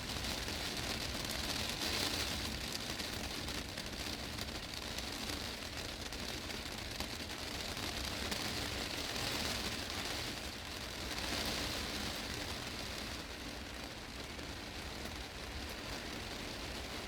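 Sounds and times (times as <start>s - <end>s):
heavy rain on glass roof: 0.0s - 17.0s.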